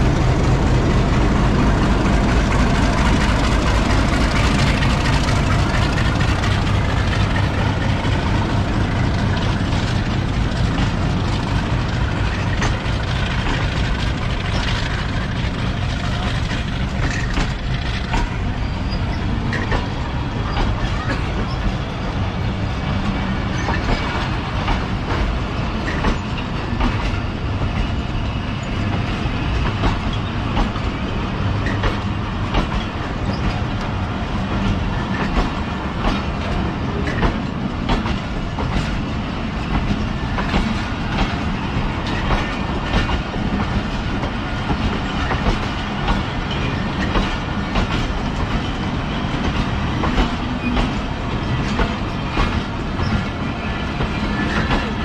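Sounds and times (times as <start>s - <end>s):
train wheels clattering over rail joints: 0.0s - 55.0s.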